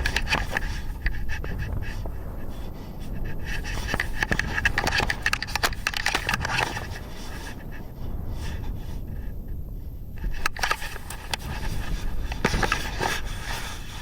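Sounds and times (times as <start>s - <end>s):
irregular clicks and scraping: 0.0s - 9.2s, 10.2s - 14.0s
steady low rumble: 0.0s - 14.0s.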